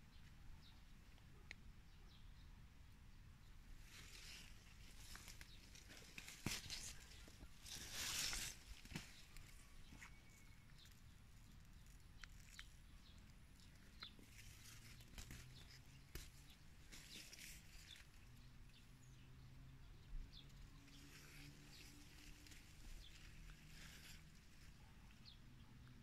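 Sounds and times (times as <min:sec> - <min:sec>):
faint bird chirps: 0:04.0 - 0:26.0.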